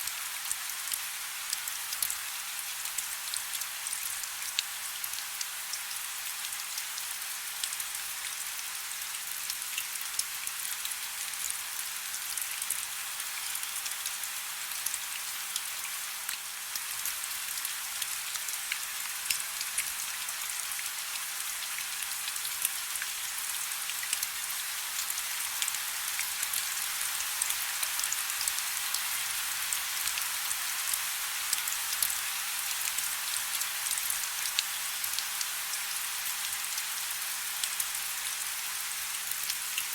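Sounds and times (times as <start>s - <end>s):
soft steady rain: 0.0s - 39.9s.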